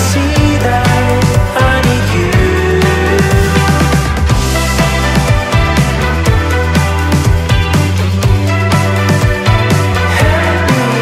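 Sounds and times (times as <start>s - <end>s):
pop electronic music: 0.0s - 11.0s.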